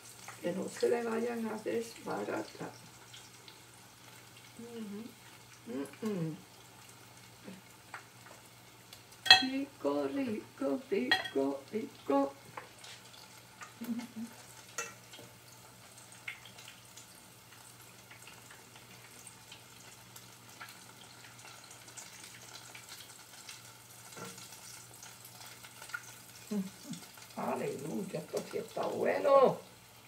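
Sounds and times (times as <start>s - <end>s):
oil sizzling with crackles: 0.0s - 30.0s.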